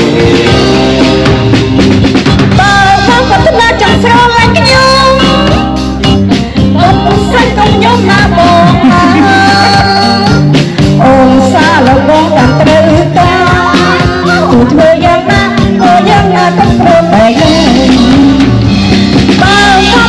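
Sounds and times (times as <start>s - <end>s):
band playing amplified music: 0.0s - 20.0s
bass notes: 0.0s - 20.0s
drum beat: 0.0s - 20.0s.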